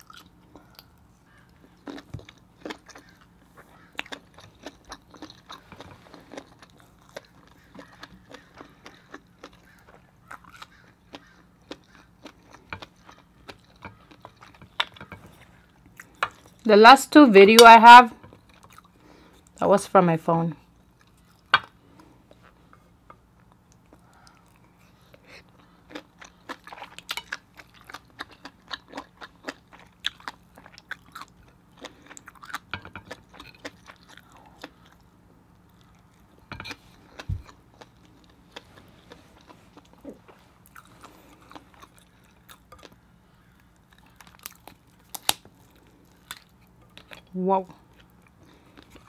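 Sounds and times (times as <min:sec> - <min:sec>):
wet chewing and mouth smacks: 0:00.0 - 0:16.6, 0:23.4 - 0:47.3.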